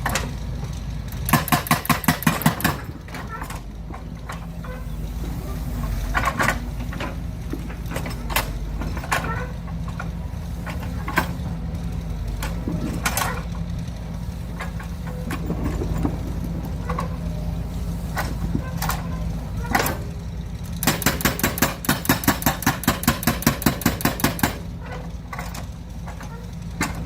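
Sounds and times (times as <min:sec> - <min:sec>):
sharp clanks and knocks: 0:00.0 - 0:11.6, 0:12.3 - 0:27.0
excavator engine running: 0:00.0 - 0:27.0.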